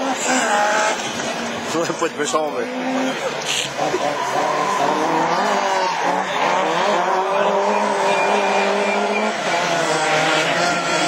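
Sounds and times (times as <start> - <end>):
rally car engines revving: 0.0 - 11.0.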